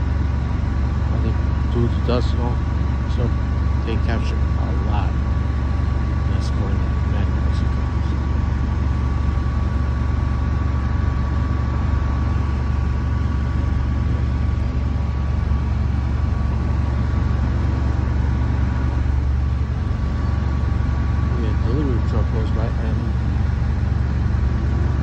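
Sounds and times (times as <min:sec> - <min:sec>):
heavy truck engine running: 0:00.0 - 0:25.0
thin steady whine: 0:00.0 - 0:25.0.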